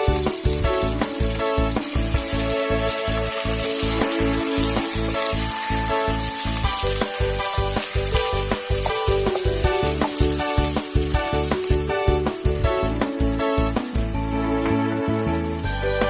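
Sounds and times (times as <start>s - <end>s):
background music with quick beat: 0.0s - 16.0s
food sizzling in a pot: 0.0s - 16.0s.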